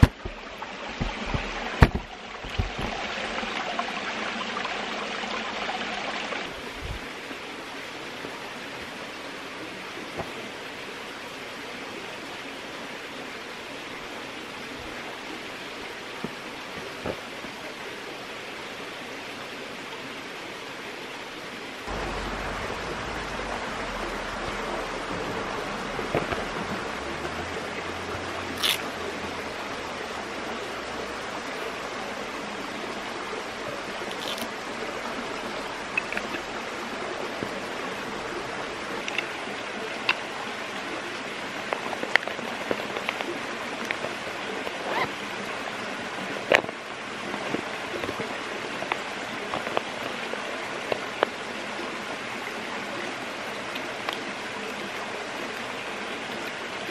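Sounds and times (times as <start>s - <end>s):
flowing stream: 0.0s - 56.9s.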